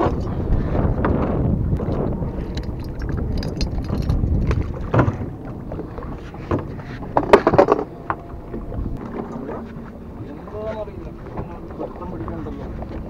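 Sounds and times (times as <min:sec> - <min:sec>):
water slapping boat hull: 0:00.0 - 0:13.0
wind buffeting microphone: 0:00.0 - 0:13.0.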